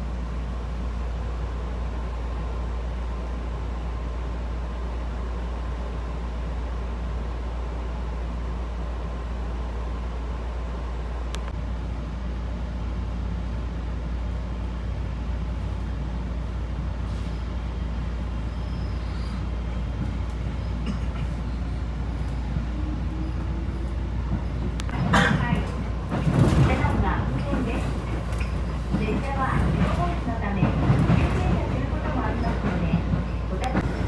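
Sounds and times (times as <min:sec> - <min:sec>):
train running rumble: 0:00.0 - 0:34.0.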